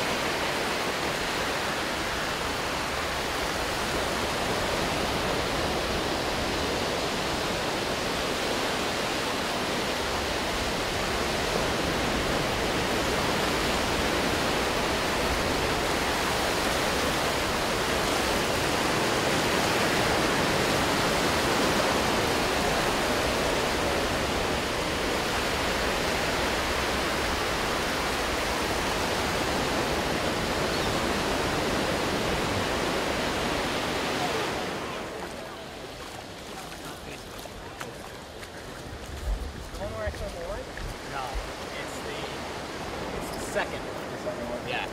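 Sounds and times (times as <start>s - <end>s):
ocean surf on beach: 0.0s - 44.9s.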